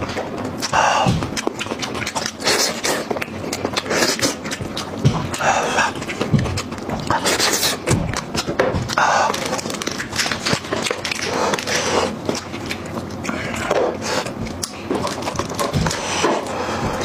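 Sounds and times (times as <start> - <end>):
meat tearing and bone cracking: 0.0 - 17.0
wet chewing and lip-smacking: 0.0 - 17.0.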